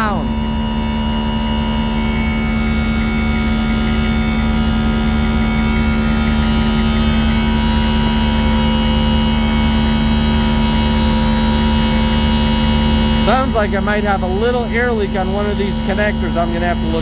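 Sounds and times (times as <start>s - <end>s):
air compressor humming: 0.0s - 17.0s
truck engine running: 0.0s - 17.0s.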